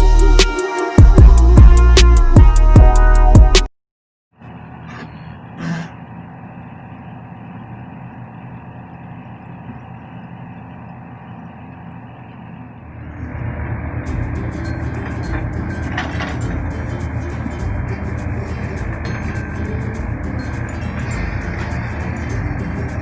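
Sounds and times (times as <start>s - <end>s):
excavator diesel engine running: 4.4s - 23.0s.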